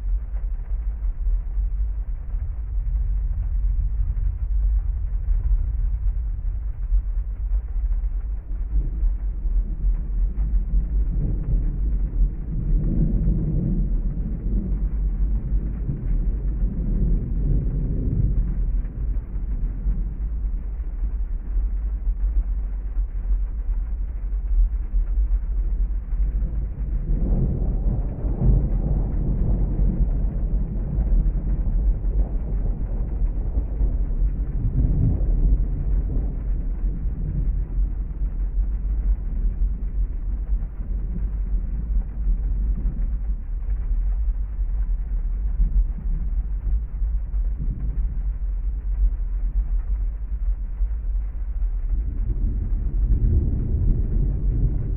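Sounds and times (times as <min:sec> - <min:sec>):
deep low rumble: 0:00.0 - 0:54.9
heavy rain: 0:00.0 - 0:54.9
thunder rolling: 0:00.0 - 0:54.9.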